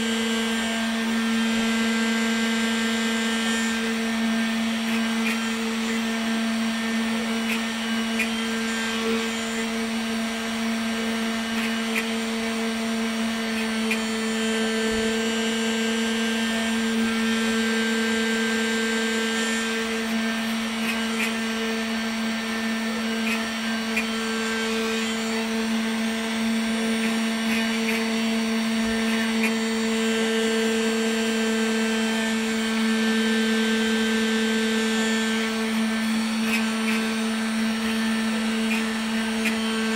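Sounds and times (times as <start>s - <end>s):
router humming while carving: 0.0s - 39.9s.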